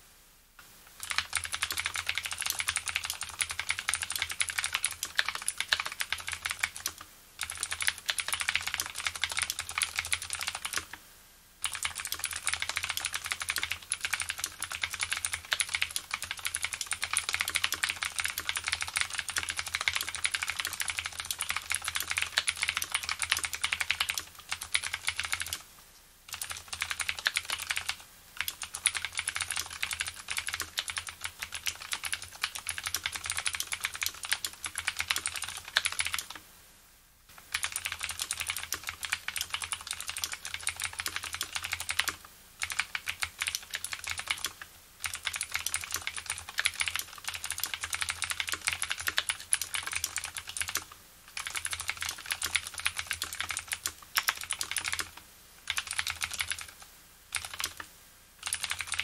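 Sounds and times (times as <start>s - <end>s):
fast keyboard typing clicks: 1.0s - 11.0s, 11.6s - 25.6s, 26.3s - 36.4s, 37.4s - 59.0s.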